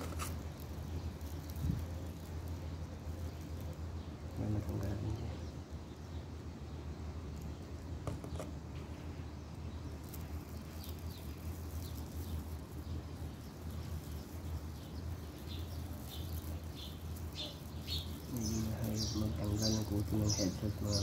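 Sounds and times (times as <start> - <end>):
small bird chirping: 0.0 - 21.0
steady low hum: 0.0 - 21.0.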